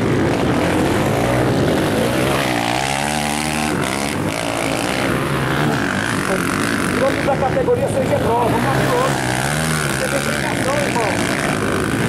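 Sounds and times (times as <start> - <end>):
motorcycle engine revving: 0.0 - 12.0
motorcycle engines racing: 0.0 - 12.0.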